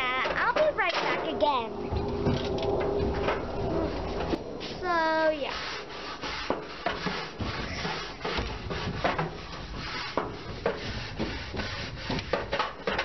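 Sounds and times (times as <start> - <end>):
grill scraping: 0.1 - 13.0.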